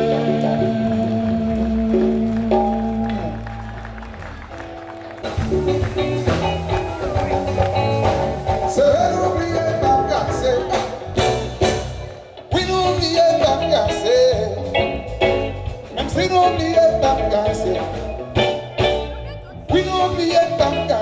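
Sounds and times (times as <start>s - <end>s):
bass line: 0.0s - 21.0s
drums beat: 0.0s - 21.0s
gliding melodic lead line: 0.0s - 21.0s.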